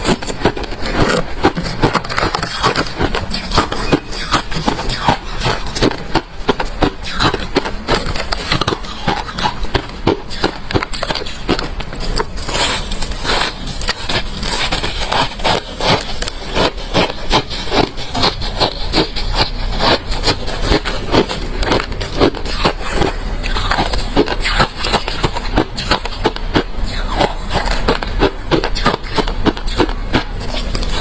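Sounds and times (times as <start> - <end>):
chewing crunchy ice: 0.0 - 31.0.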